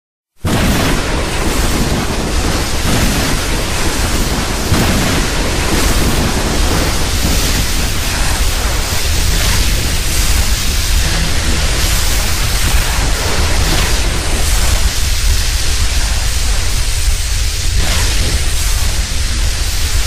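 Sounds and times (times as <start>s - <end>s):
loud rushing noise: 0.4s - 20.0s
deep rumble: 0.5s - 20.0s.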